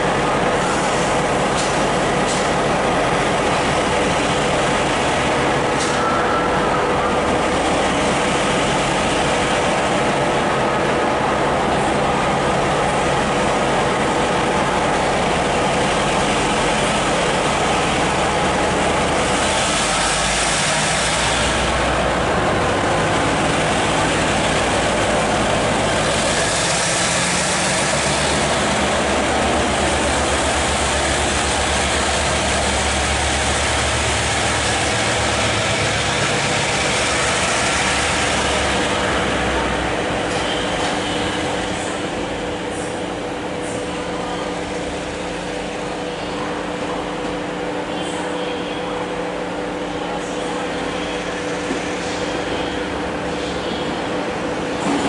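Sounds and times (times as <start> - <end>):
diesel locomotive passing slowly: 0.0 - 55.0.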